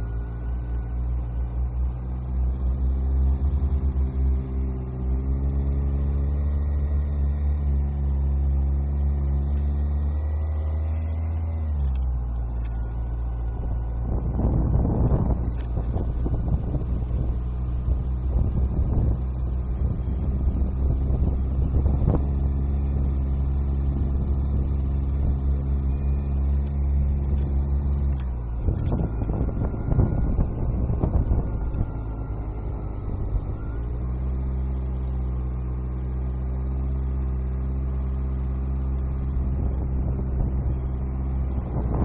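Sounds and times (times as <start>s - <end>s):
rough noisy engine sound: 0.0s - 42.0s
motorcycle engine idling: 6.2s - 42.0s.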